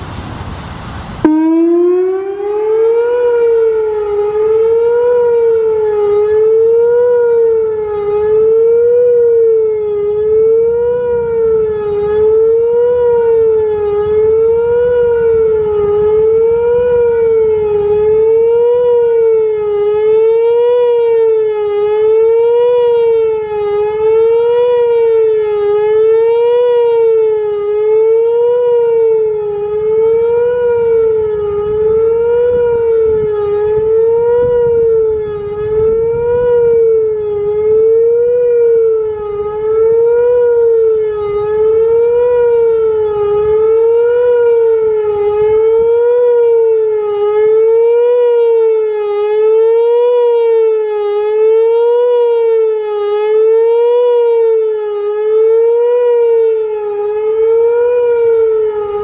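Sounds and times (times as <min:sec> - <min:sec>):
wavering electronic siren: 0:00.0 - 0:59.0.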